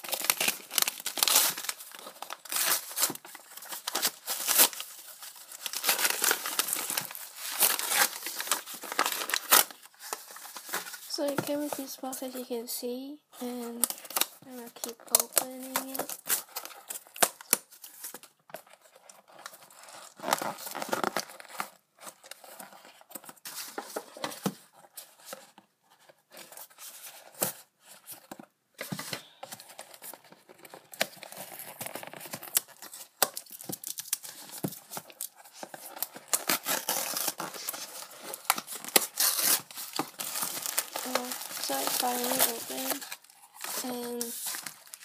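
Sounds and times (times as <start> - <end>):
cardboard packaging tearing and crinkling: 0.0 - 12.0, 13.7 - 45.0.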